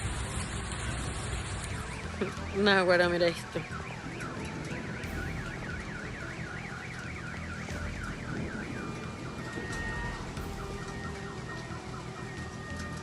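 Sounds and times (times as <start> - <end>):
low rumble: 0.0 - 13.0
electronic alarm siren warbling: 0.8 - 13.0.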